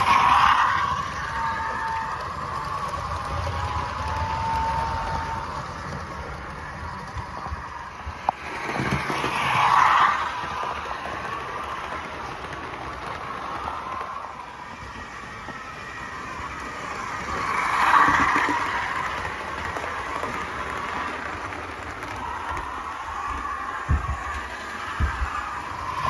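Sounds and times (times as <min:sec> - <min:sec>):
model train rumbling on track: 0:00.0 - 0:26.0.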